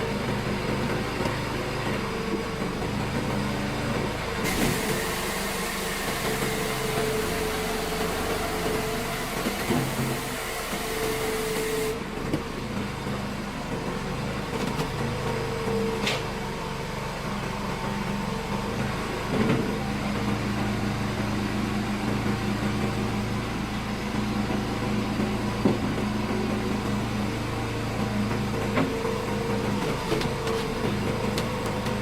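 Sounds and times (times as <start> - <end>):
log splitter engine running: 0.0 - 32.0.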